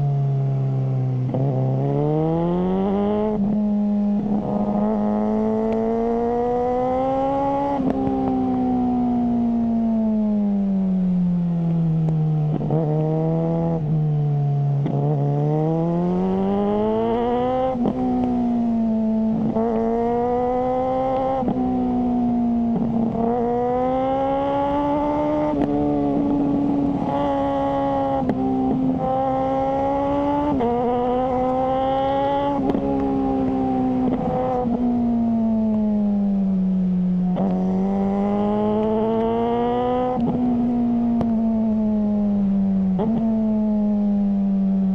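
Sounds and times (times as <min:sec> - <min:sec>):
motorcycle engine shifting gears: 0:00.3 - 0:44.9.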